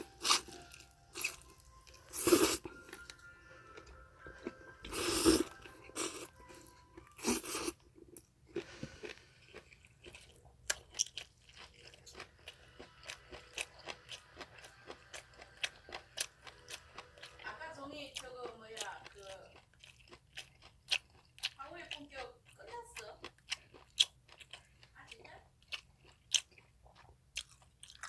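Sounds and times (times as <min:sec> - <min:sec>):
person chewing noodles: 0:00.0 - 0:28.0.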